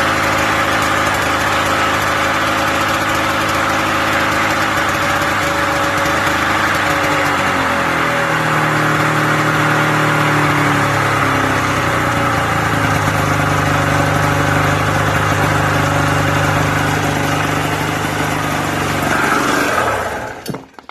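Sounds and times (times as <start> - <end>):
snowmobile engine running: 0.0 - 20.4.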